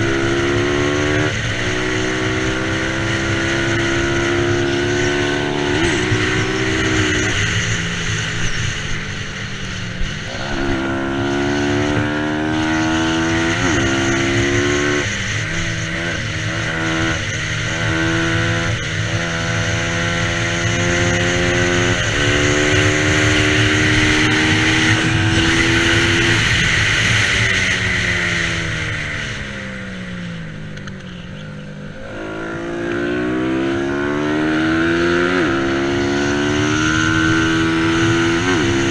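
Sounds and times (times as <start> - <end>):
motorcycle engine racing: 0.0 - 38.9.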